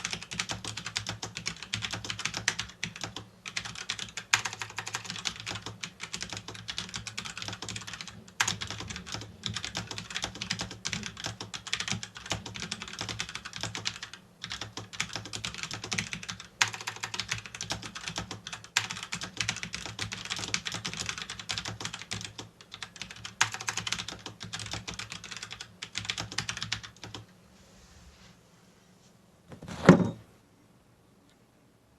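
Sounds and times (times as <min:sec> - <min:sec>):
fast typing on keyboard: 0:00.0 - 0:27.2.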